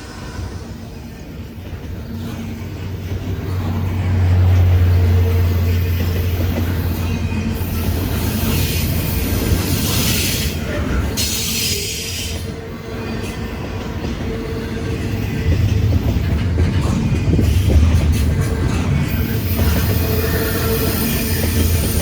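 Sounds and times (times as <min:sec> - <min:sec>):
locomotive engine rumble: 0:00.0 - 0:22.0
wheels hissing on rails: 0:00.0 - 0:22.0.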